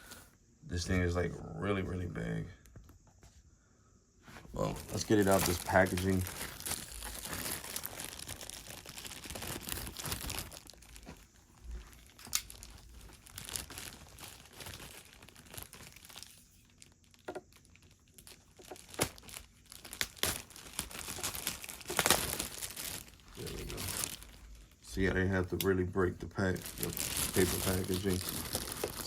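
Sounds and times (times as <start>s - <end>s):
paper packaging crinkling: 4.6s - 29.0s.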